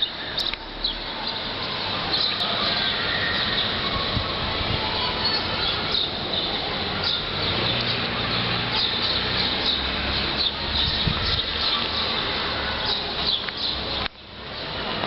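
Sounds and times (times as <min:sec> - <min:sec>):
birds chirping: 0:00.0 - 0:15.0
steady noisy hiss: 0:00.0 - 0:15.0.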